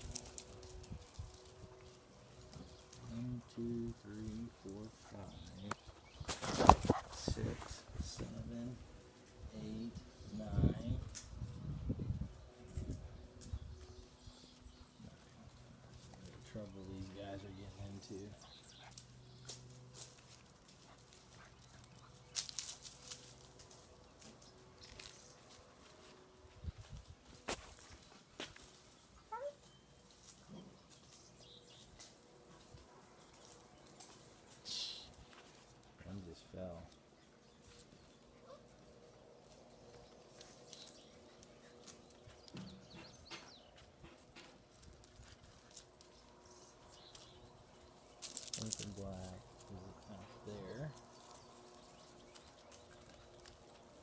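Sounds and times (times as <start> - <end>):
puppies scuffling in gravel: 0.0 - 11.6, 12.4 - 34.6, 35.2 - 54.0.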